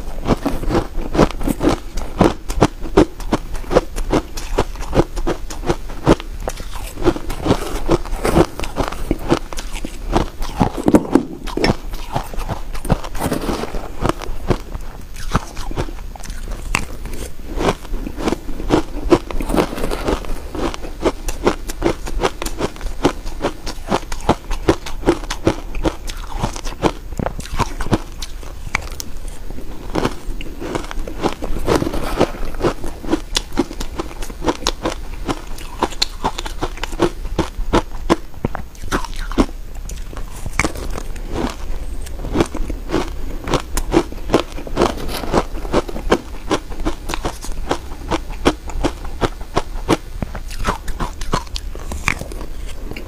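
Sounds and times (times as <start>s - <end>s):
chewing crunchy ice: 0.0s - 53.0s.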